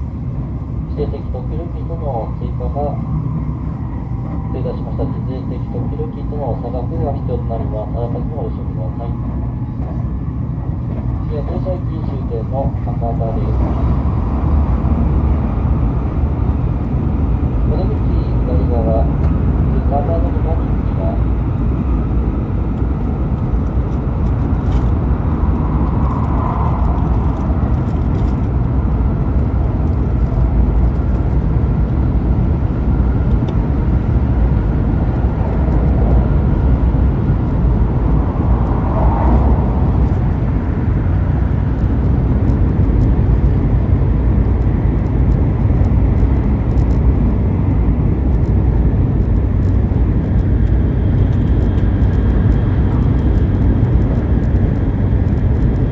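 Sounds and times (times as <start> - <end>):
train rumble inside carriage: 0.0 - 55.9.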